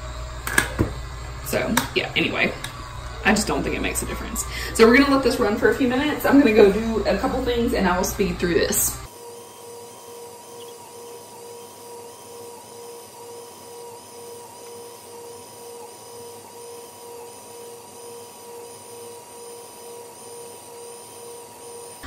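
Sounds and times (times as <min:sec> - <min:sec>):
small motor whining: 0:00.0 - 0:22.0.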